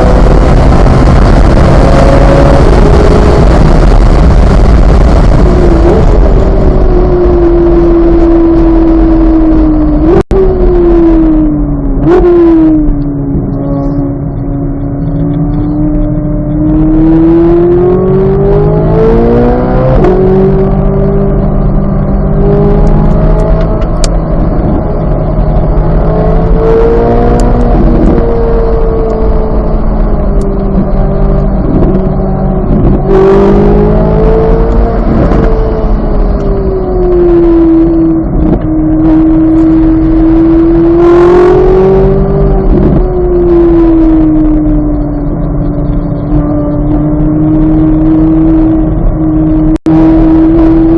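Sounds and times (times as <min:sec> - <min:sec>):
car engine revving at gear changes: 0:00.0 - 0:50.9
road and wind noise: 0:00.0 - 0:50.9.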